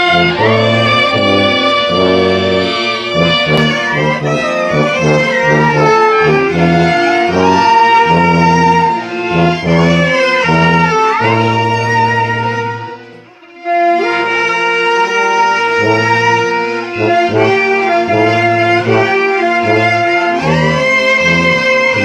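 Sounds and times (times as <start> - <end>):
violins and brass playing a hymn: 0.0 - 22.0.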